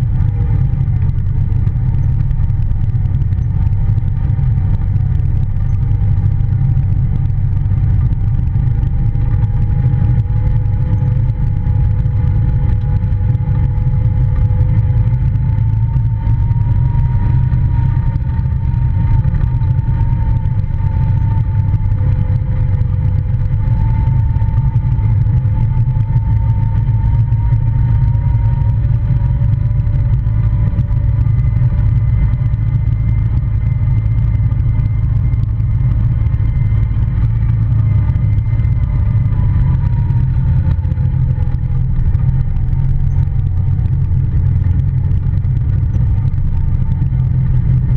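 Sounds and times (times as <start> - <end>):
engine whine: 0.0 - 47.9
vehicle engine drone: 0.0 - 47.9.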